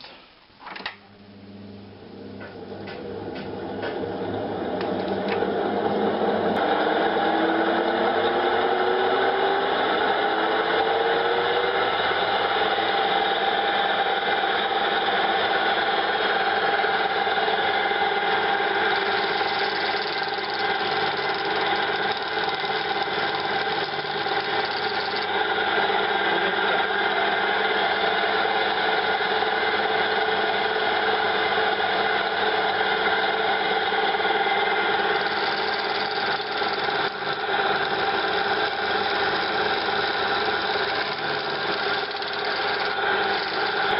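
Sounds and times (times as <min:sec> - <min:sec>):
woodworking lathe spinning: 0:02.5 - 0:43.9.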